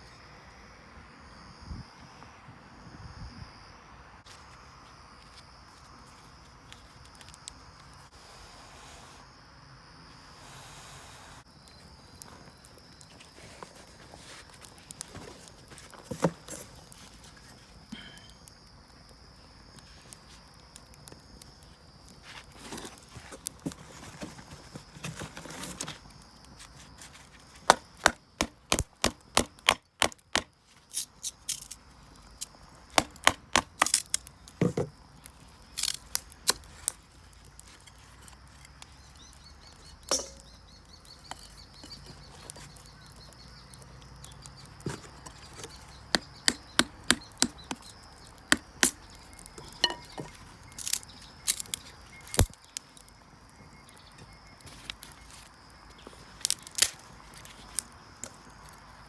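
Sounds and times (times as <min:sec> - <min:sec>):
dry firewood cracking: 0:05.2 - 0:08.1, 0:11.5 - 0:59.0.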